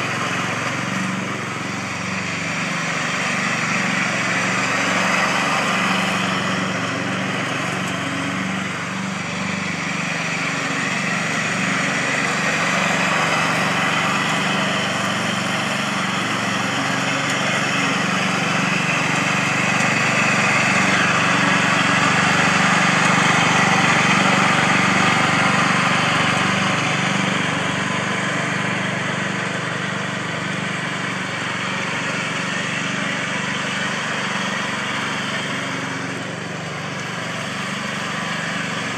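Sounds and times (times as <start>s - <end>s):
riding mower cutting grass: 0.0s - 38.9s.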